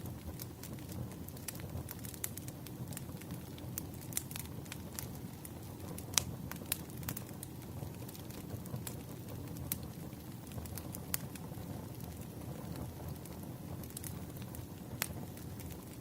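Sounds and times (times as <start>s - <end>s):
firewood popping and snapping: 0.0s - 16.0s
low rumble of flames: 0.0s - 16.0s.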